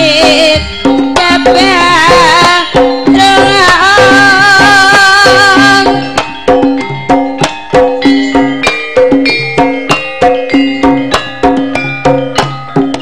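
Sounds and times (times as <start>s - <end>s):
gamelan playing: 0.0s - 13.0s.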